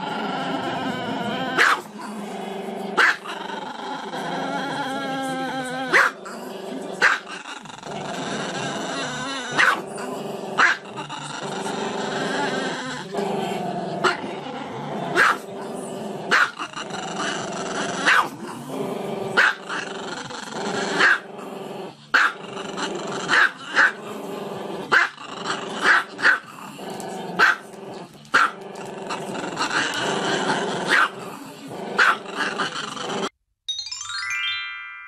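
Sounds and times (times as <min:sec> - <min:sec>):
dog growling: 0:00.0 - 0:33.4.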